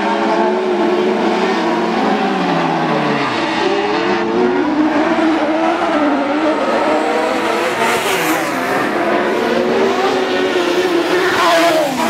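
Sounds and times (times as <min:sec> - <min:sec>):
racing buggy engines revving: 0:00.0 - 0:12.0.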